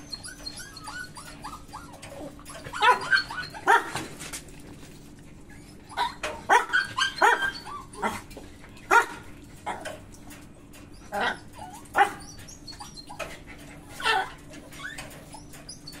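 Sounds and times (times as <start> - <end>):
dogs barking: 0.0 - 4.2, 5.6 - 16.0.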